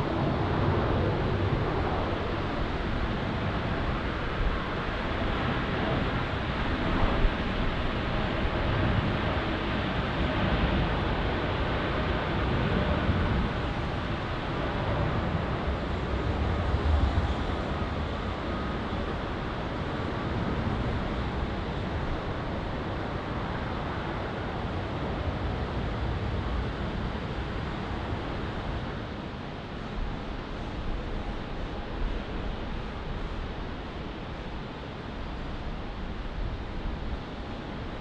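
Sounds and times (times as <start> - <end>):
jet engines roaring at takeoff: 0.0 - 34.1.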